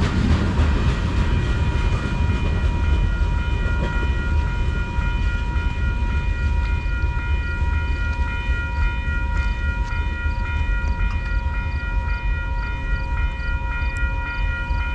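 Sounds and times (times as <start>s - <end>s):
train rumbling past: 0.0s - 14.9s
high ringing tones: 1.3s - 14.9s.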